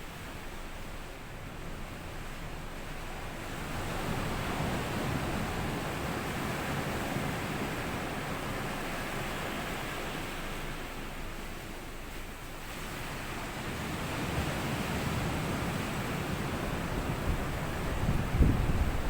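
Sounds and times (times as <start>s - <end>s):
low rumbling wind gusts: 0.0s - 19.0s.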